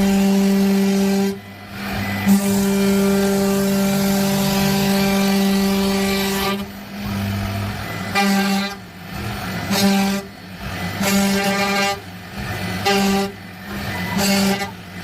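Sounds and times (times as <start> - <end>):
horn blasts and toots: 0.0 - 15.0.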